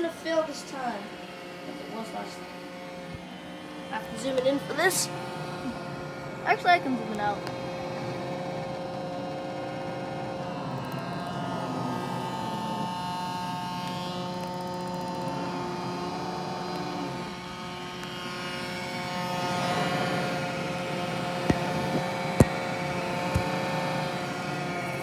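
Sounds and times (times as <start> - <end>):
robot vacuum humming and whining: 0.0 - 25.0.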